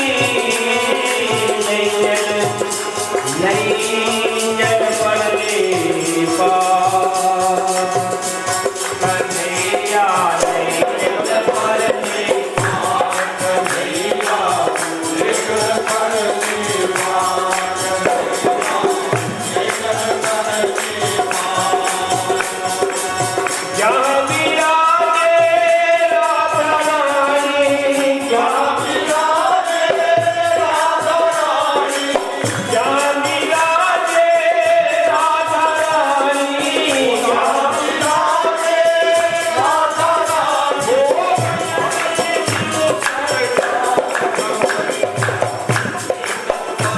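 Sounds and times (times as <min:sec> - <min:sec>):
fast percussion beat: 0:00.0 - 0:46.9
voices singing: 0:00.0 - 0:46.9.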